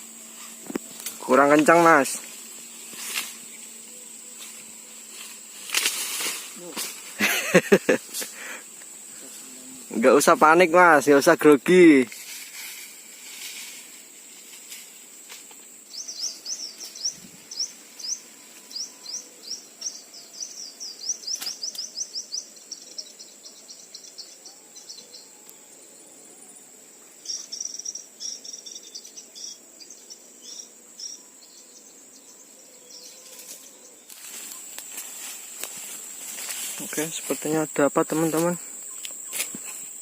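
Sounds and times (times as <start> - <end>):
high insect drone: 0.0 - 40.0.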